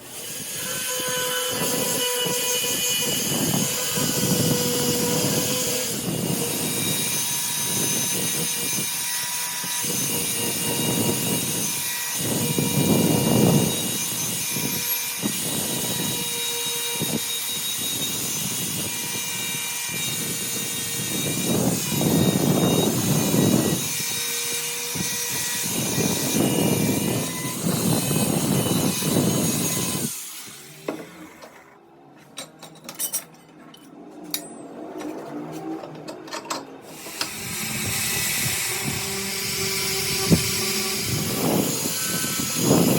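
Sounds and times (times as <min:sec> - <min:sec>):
angle grinder whining: 0:00.0 - 0:31.8, 0:36.8 - 0:42.9.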